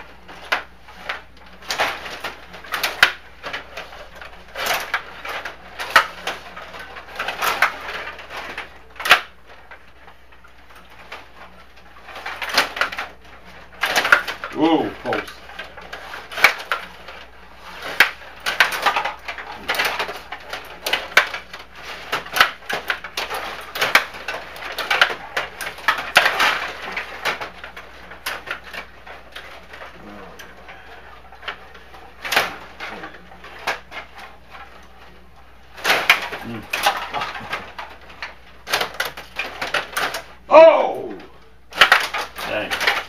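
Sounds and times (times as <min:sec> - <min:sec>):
plastic rods sliding and spinning: 0:00.0 - 0:40.5, 0:41.1 - 0:43.0.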